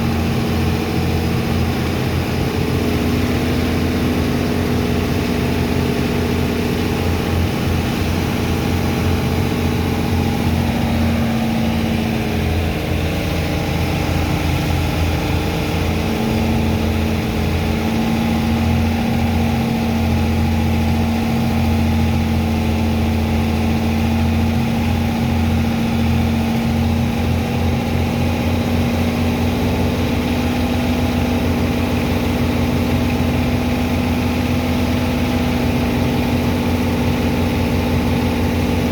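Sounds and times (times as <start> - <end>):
pump engine throbbing: 0.0 - 38.9.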